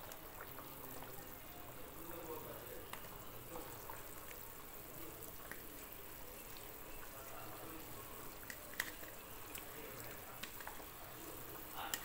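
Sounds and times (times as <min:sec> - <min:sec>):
gravy simmering in a pot: 0:00.0 - 0:12.0.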